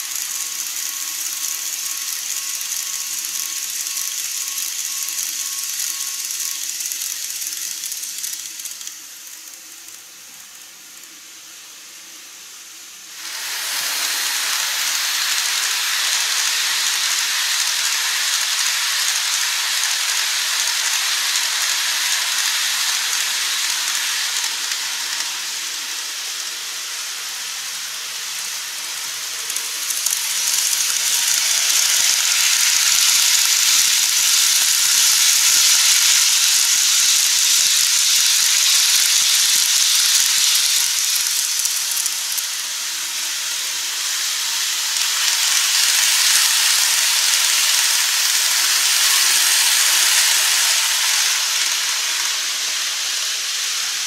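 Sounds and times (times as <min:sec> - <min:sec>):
model train wheels on rails: 0:00.0 - 0:54.0.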